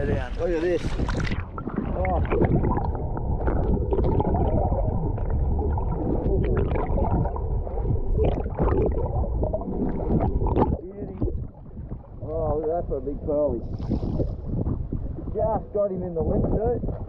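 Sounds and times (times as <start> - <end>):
underwater gurgling and sloshing: 0.0 - 17.0.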